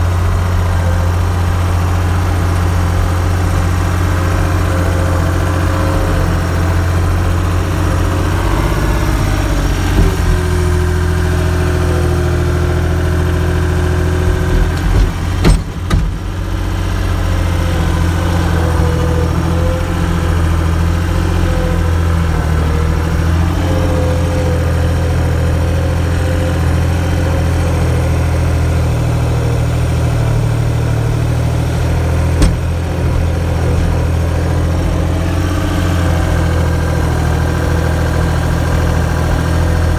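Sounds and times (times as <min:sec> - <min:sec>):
engine idling: 0:00.0 - 0:39.9
engine knocks: 0:00.0 - 0:39.9.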